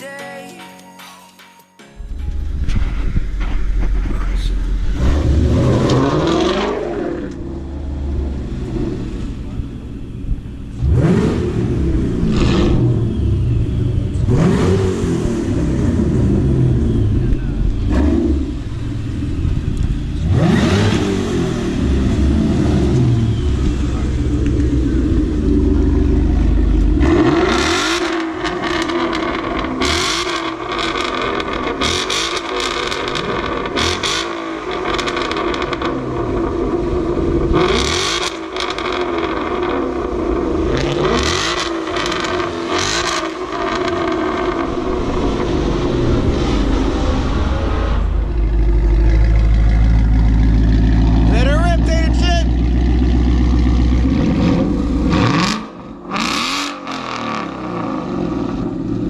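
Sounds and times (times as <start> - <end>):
car engines rumbling: 2.0 - 59.0.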